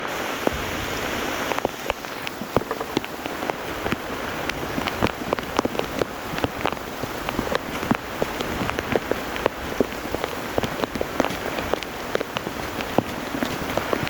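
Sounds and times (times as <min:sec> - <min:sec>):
heavy raindrops striking: 0:00.0 - 0:14.0
steady hiss of rainfall: 0:00.0 - 0:14.0.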